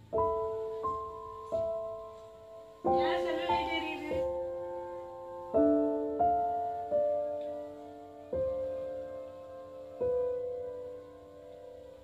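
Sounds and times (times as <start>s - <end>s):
slow piano notes: 0.0s - 12.0s.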